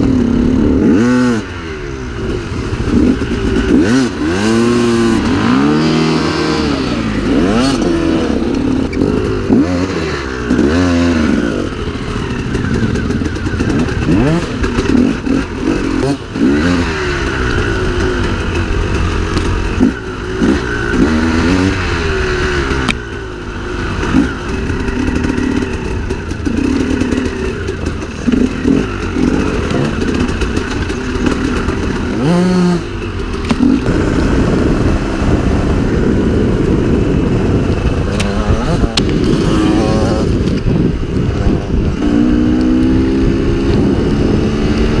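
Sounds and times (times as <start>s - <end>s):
two-stroke motorcycle engine revving: 0.0s - 45.0s.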